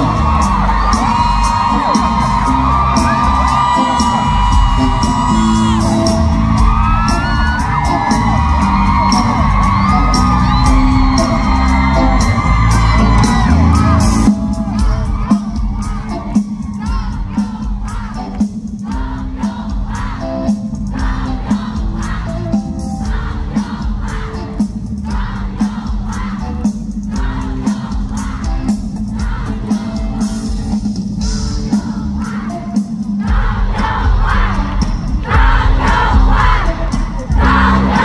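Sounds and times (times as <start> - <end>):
crowd singing and shouting: 0.0 - 38.0
live band with singing: 0.0 - 38.0.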